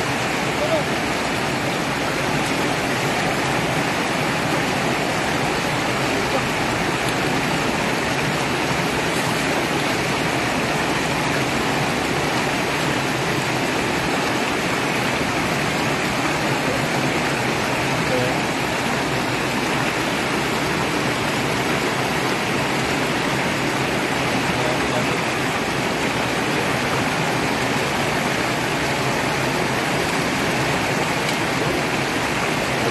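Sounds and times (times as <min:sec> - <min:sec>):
water rushing over concrete blocks: 0:00.0 - 0:32.9.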